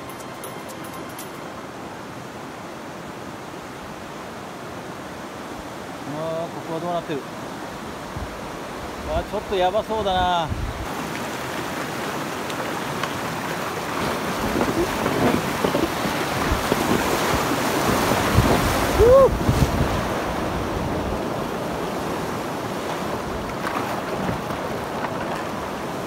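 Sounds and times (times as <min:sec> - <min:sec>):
river rapids rushing and splashing: 0:00.0 - 0:26.0.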